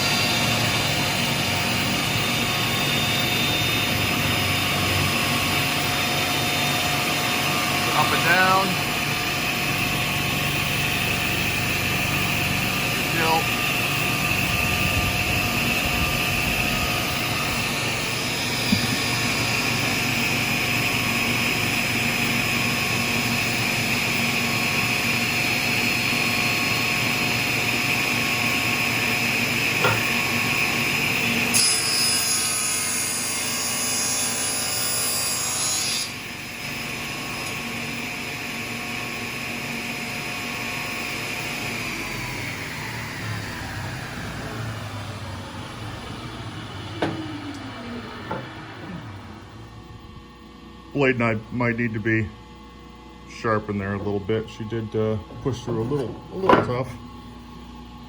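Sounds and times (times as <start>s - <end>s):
saw cutting wood: 0.0s - 49.3s
table saw running: 0.0s - 52.1s.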